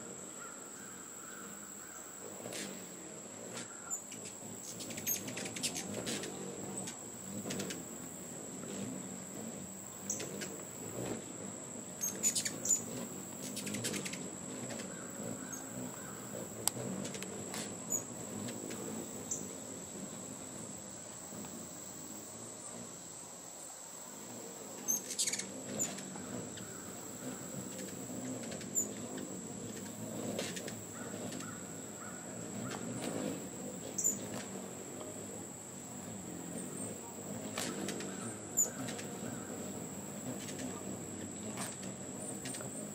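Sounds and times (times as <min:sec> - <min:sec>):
hummingbird chip calls: 0:00.0 - 0:22.9, 0:24.5 - 0:42.9.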